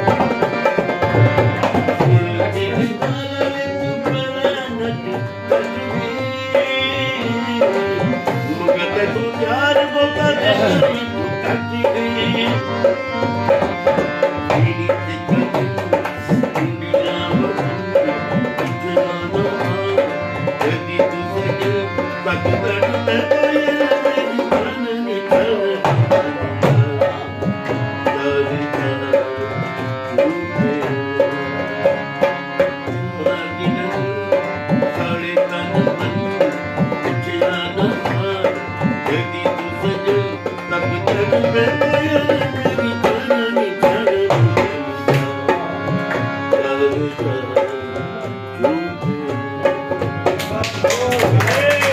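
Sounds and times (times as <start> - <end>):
barrel drum beating rhythm: 0.0 - 51.9
harmonium melody: 0.0 - 51.9.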